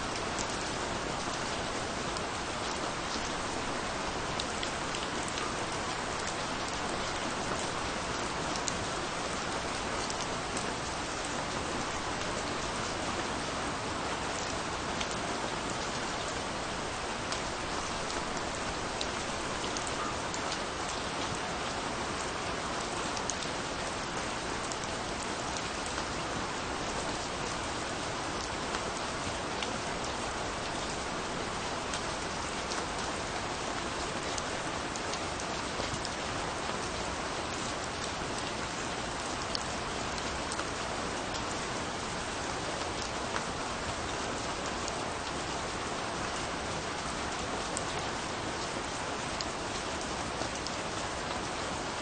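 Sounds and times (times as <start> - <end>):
raindrops pattering on surface: 0.1 - 52.0.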